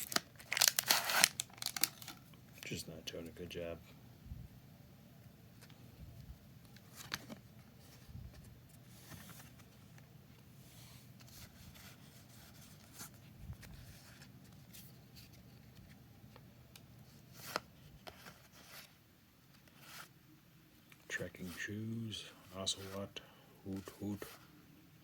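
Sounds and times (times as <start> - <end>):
trading cards rustling and crinkling: 0.0 - 3.6, 5.5 - 20.2, 20.8 - 24.5.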